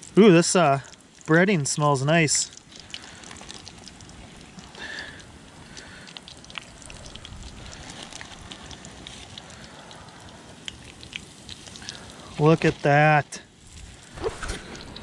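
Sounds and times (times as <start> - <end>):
fish frying in hot oil: 0.0 - 15.0
oil crackles and pops: 0.0 - 15.0.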